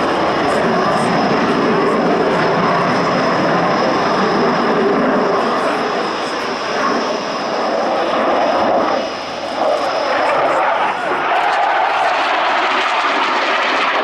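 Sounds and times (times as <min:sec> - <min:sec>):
high jet whine: 0:00.0 - 0:14.0
jet engine roar: 0:00.0 - 0:14.0.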